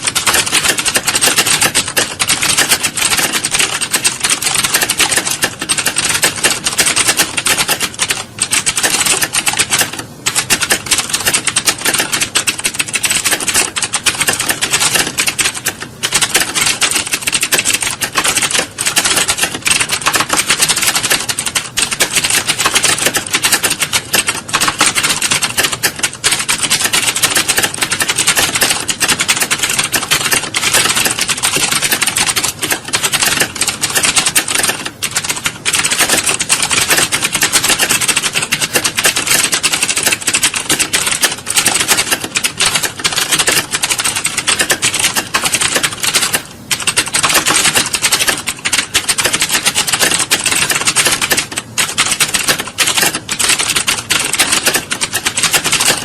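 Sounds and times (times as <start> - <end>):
fast keyboard typing clatter: 0.0 - 56.0.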